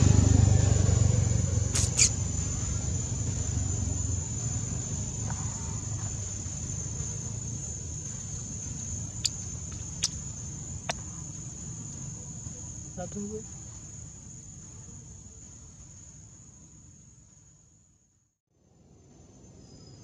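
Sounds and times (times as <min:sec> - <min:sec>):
high-pitched insect drone: 0:00.5 - 0:17.7.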